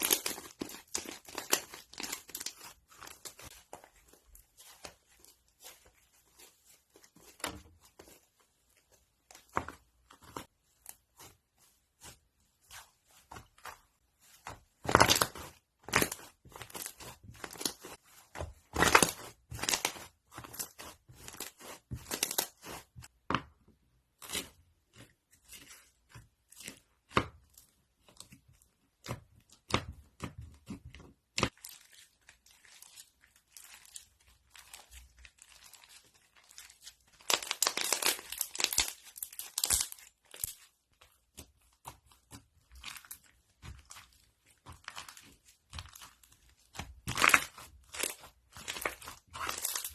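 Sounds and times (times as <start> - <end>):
crunchy slime crackling: 0.0 - 8.2, 9.3 - 22.9, 31.4 - 49.9.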